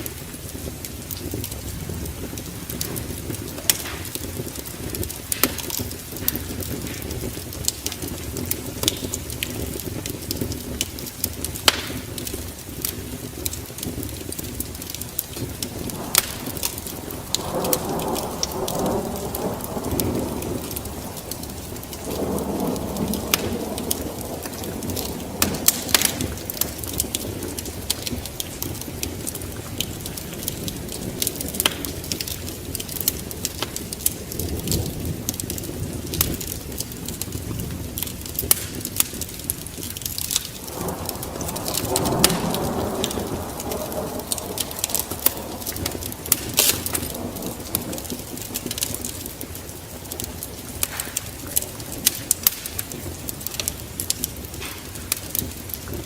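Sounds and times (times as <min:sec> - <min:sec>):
low thunder rumbles: 0:00.0 - 0:56.0
steady rain: 0:00.0 - 0:56.0
wood fire crackling and popping: 0:00.0 - 0:56.0.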